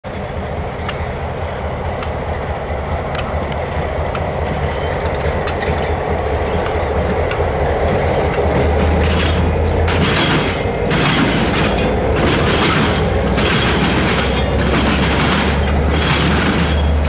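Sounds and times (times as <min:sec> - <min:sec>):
diesel locomotive rumbling: 0:00.0 - 0:17.0
wheels clicking on track: 0:00.2 - 0:17.0.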